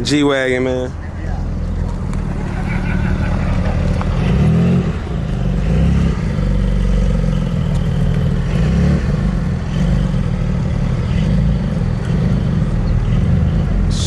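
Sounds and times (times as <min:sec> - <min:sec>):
car engines rumbling: 0:00.0 - 0:14.0.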